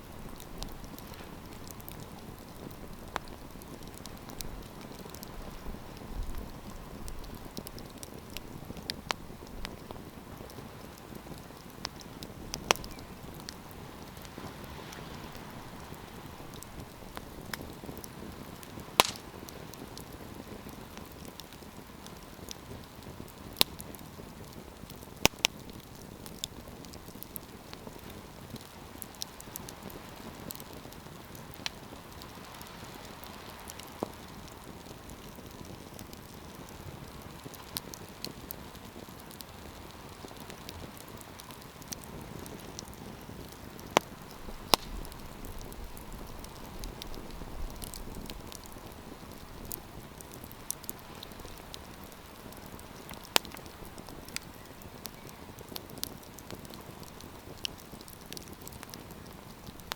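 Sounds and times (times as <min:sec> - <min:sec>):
campfire crackling and hissing: 0:00.0 - 0:59.9
sharp pops from fire: 0:00.0 - 0:59.9.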